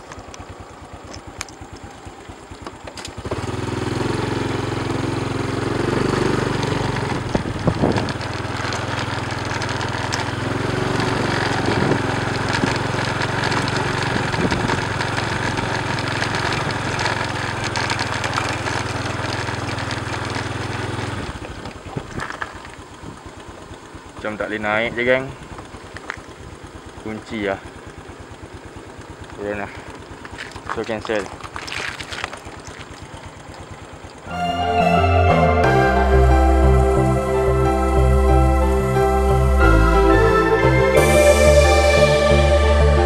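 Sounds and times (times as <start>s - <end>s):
small motorcycle engine: 0.0s - 35.0s, 35.6s - 43.0s.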